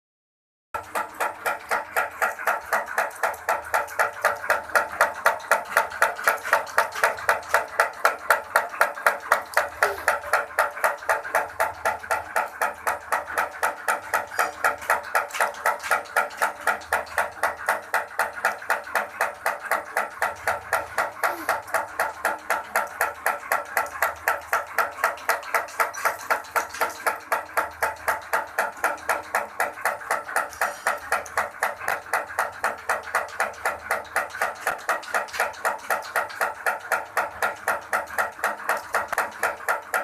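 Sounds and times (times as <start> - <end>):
machine clacking rhythmically: 0.8 - 40.0.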